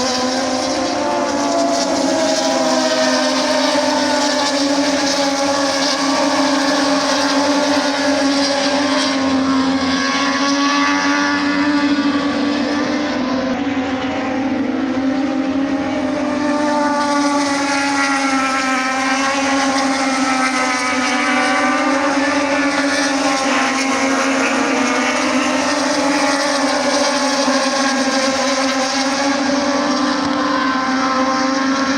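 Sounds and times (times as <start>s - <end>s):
engines droning: 0.0s - 31.9s.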